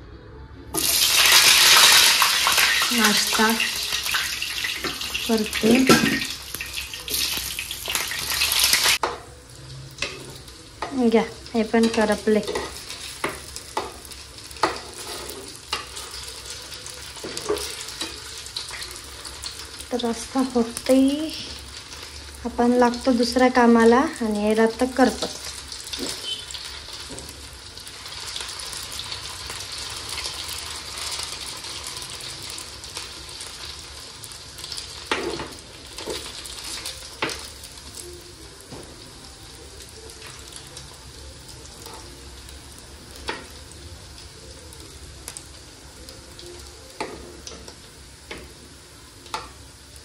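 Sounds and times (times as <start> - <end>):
food frying in hot oil: 0.8 - 50.0.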